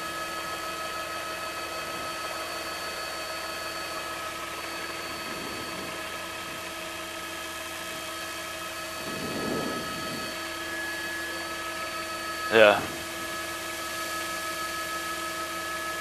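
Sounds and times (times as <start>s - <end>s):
helicopter engine and rotor noise: 0.0s - 16.0s.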